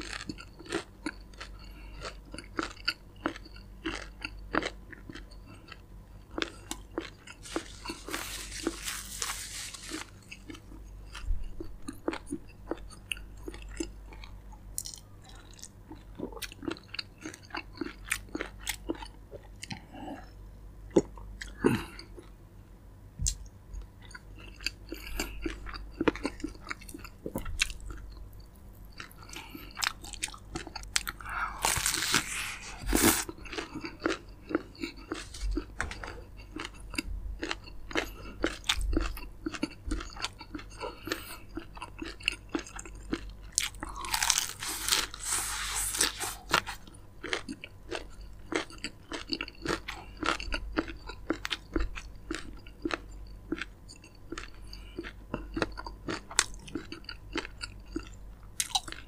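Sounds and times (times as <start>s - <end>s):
chewing crispy fried chicken: 0.0s - 22.4s, 23.2s - 59.0s.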